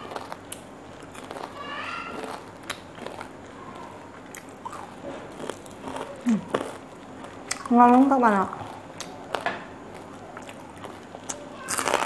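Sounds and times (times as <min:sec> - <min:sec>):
crunching crispy food: 0:00.0 - 0:12.0.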